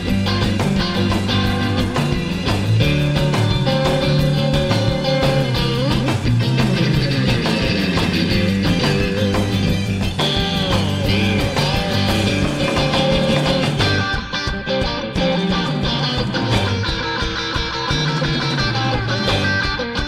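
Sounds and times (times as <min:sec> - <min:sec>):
rock music with guitar: 0:00.0 - 0:20.0.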